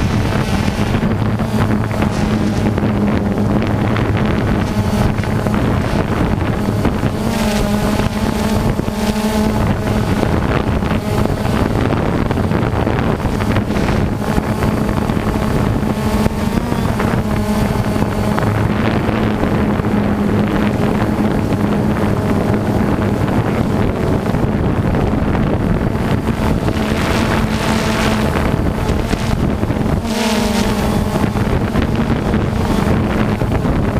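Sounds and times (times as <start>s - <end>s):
radio-controlled car motors buzzing: 0.0s - 33.9s
wind on microphone: 0.0s - 33.9s.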